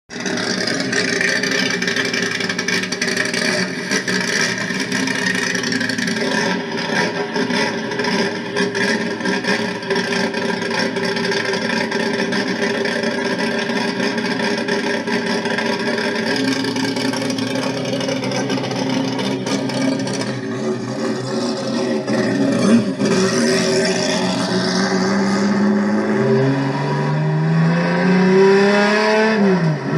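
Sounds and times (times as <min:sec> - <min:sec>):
race car engine running: 0:00.1 - 0:28.4.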